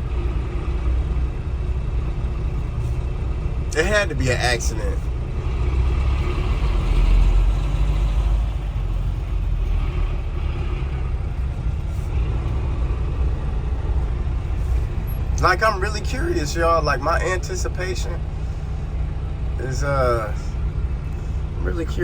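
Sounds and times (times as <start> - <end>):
road noise inside cab: 0.0 - 22.0
truck engine rumble: 0.0 - 22.0.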